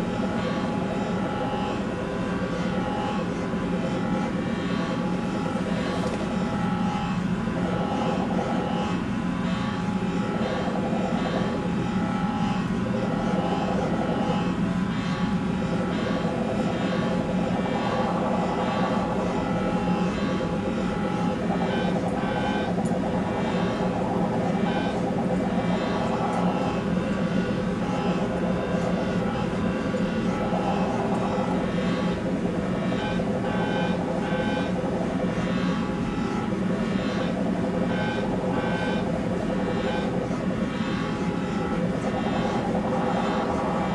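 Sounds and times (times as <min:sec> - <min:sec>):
electronic drone music: 0:00.0 - 0:43.9.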